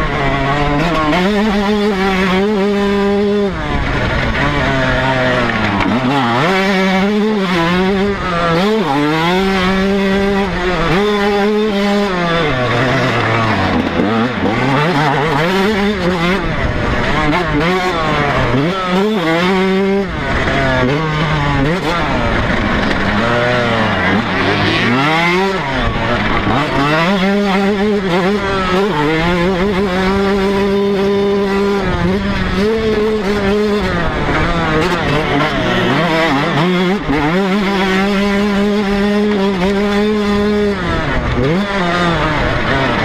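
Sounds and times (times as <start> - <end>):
motocross bike engine revving: 0.0 - 43.0.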